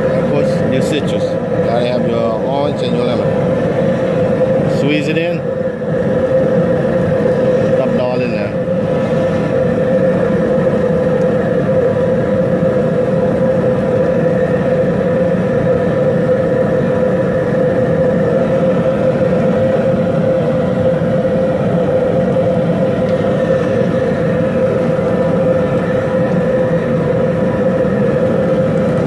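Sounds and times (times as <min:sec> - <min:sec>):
propane burner rushing: 0:00.0 - 0:29.0.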